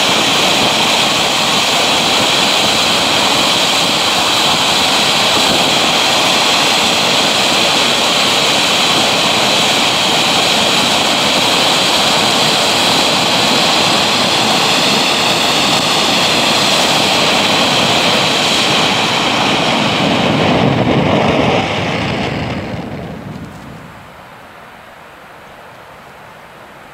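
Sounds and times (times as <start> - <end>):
firework fountain hissing: 0.0 - 24.4.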